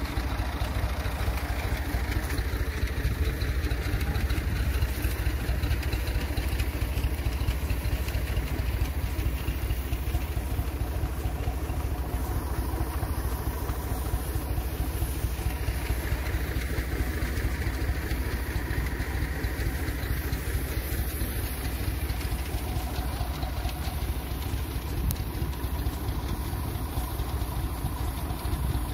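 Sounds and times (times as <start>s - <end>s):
tractor engine idling: 0.0s - 28.9s.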